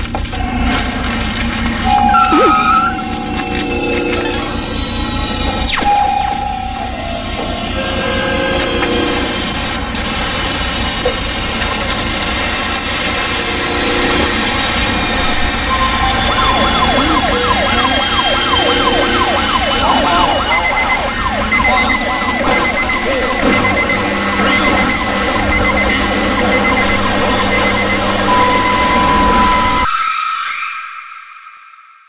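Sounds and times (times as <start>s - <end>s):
city noise: 0.1s - 29.9s
emergency siren: 0.6s - 31.0s
rapid electronic beeping: 1.8s - 8.4s, 9.0s - 29.9s.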